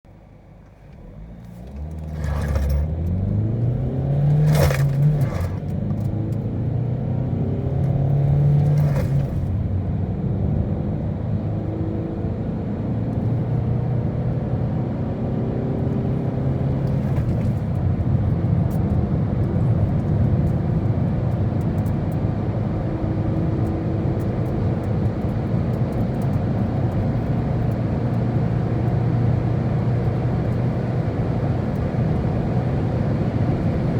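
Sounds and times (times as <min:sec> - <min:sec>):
diesel engine accelerating hard: 0:00.9 - 0:33.9.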